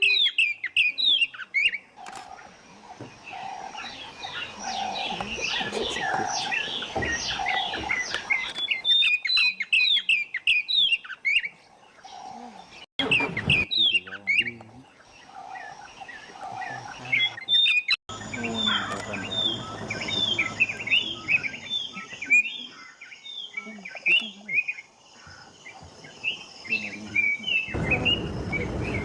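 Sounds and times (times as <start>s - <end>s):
birds chirping: 0.0s - 29.0s
low steady bird call: 0.0s - 29.0s.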